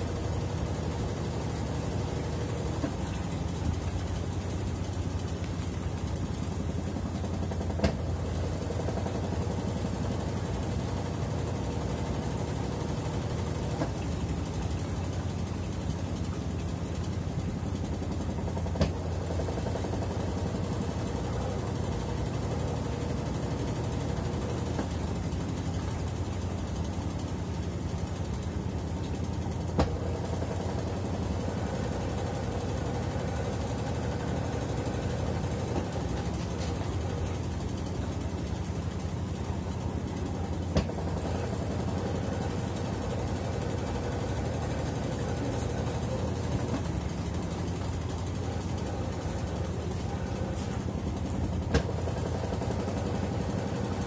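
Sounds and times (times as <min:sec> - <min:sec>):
washing machine spinning hum: 0:00.0 - 0:54.0.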